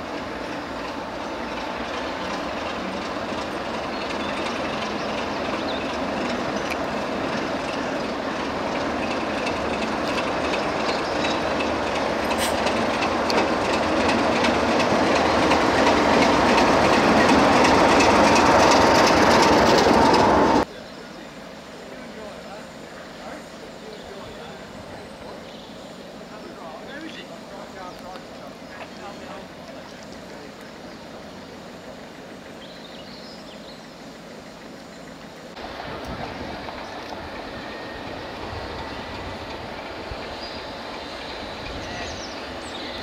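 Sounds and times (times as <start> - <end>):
train running on track: 0.0 - 43.0.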